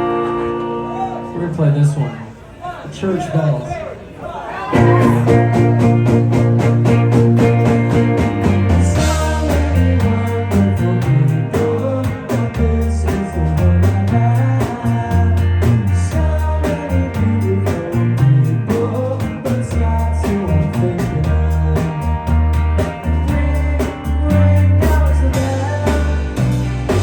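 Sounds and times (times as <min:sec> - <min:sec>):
live rock band playing: 0:00.0 - 0:01.6, 0:04.7 - 0:27.0.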